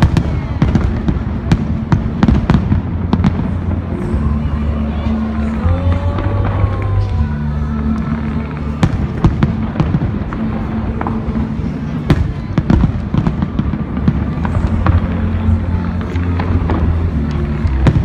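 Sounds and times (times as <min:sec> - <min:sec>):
fireworks bangs and crackles: 0:00.0 - 0:18.0
low music notes: 0:00.0 - 0:18.0.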